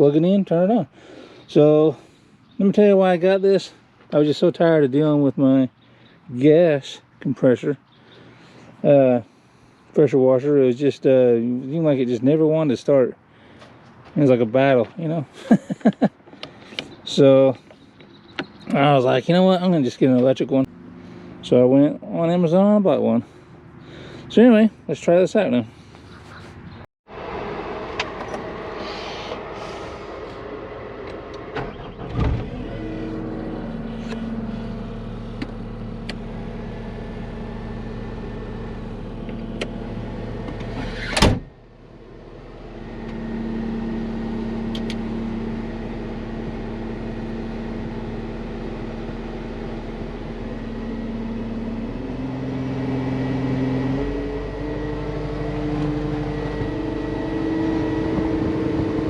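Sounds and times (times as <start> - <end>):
diesel engine running: 0.0 - 6.7, 13.2 - 59.0.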